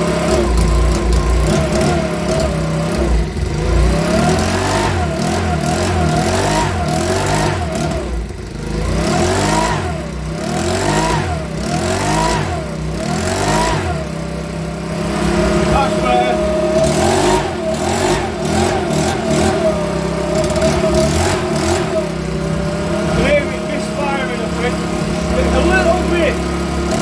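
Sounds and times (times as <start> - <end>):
leaf blower engine revving: 0.0 - 27.0.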